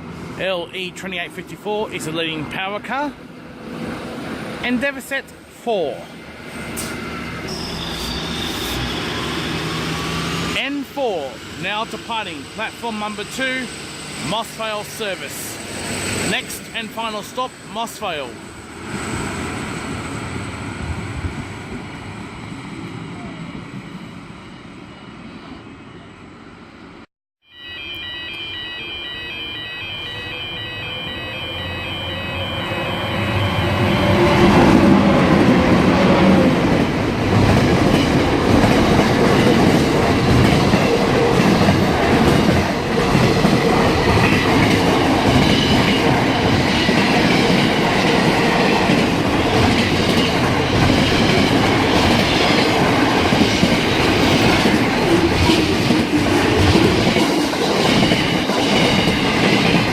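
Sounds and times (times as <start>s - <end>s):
train passing: 0.0s - 59.9s.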